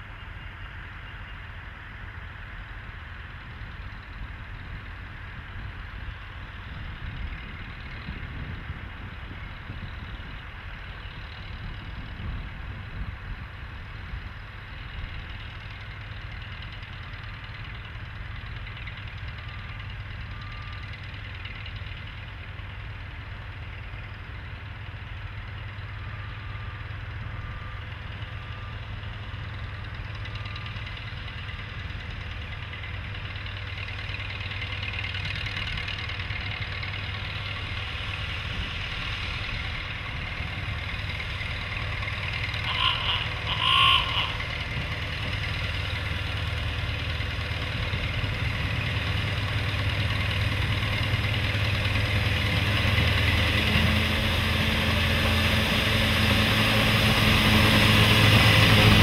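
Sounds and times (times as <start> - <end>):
diesel locomotive engine rumbling: 0.0 - 59.0.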